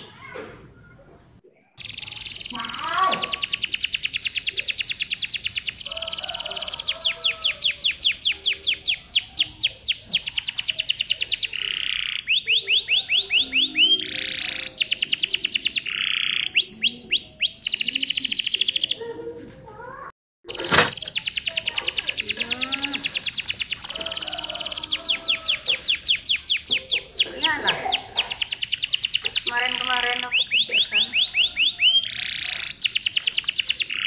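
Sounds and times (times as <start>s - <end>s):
canary singing rolling trills: 0.0s - 19.2s, 20.4s - 34.0s.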